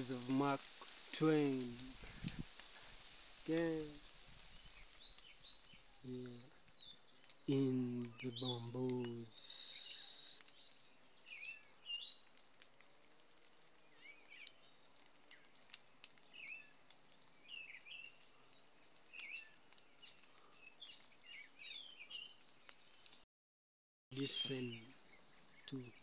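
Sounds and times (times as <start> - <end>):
faint birds chirping: 0.0 - 23.2, 24.1 - 26.0.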